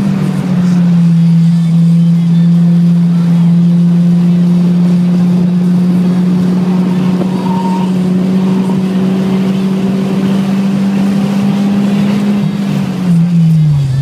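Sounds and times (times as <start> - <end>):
car engine droning at high revs: 0.0 - 14.0.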